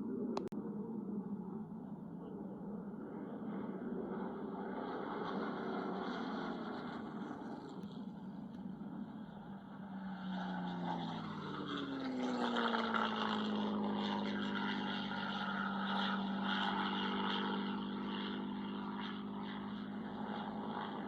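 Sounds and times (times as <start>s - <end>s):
military aircraft flying past low: 0.0s - 21.0s.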